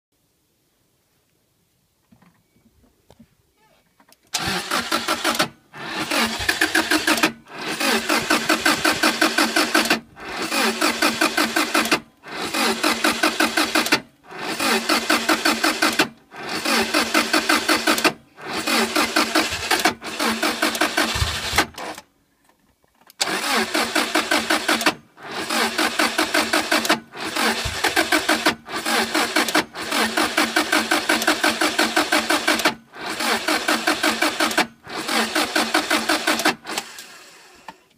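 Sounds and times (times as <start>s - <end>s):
engine cranking by starter: 4.3s - 22.1s, 23.1s - 37.9s.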